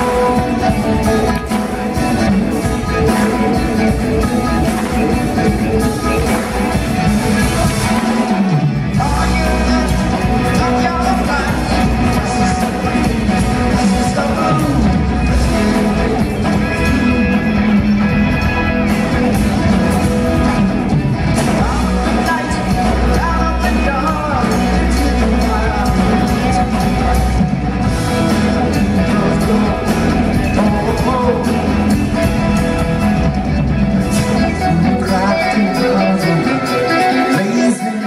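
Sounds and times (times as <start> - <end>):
bass guitar: 0.0 - 38.0
drums: 0.0 - 38.0
electric guitar: 0.0 - 38.0
person singing: 0.0 - 38.0.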